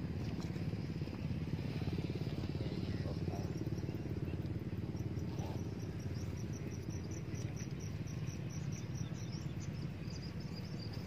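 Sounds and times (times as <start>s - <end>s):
insects chirping: 0.0s - 11.0s
low rumble: 0.0s - 11.0s.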